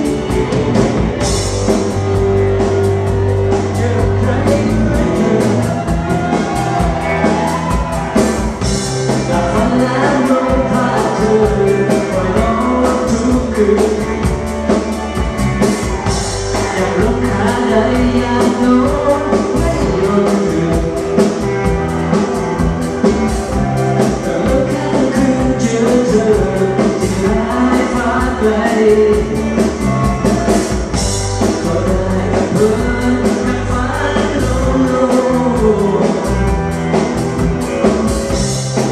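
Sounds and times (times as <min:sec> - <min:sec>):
live band playing dance tune: 0:00.0 - 0:38.9
steady drum beat: 0:00.0 - 0:38.9.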